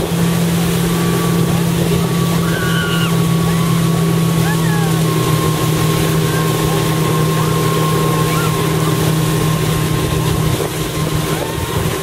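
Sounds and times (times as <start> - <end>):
motorboat engine running: 0.0 - 12.0
water rushing: 0.0 - 12.0.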